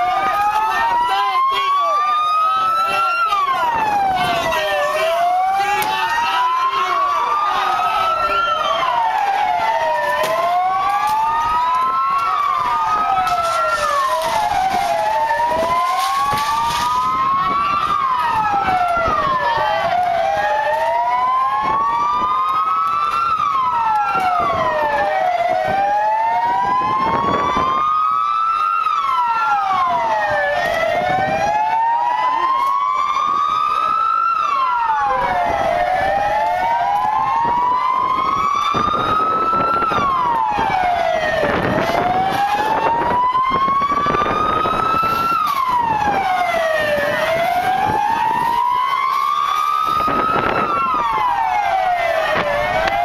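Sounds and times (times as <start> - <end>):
police sirens wailing: 0.0 - 53.0.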